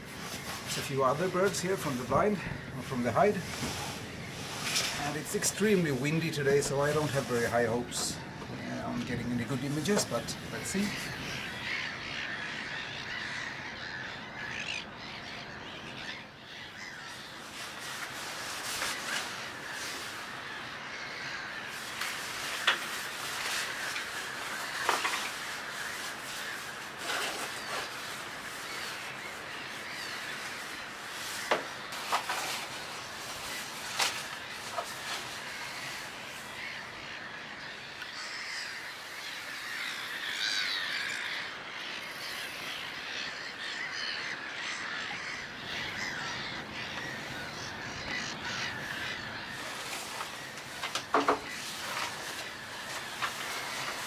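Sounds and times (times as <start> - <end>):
birds giving harsh calls: 0.0 - 54.0.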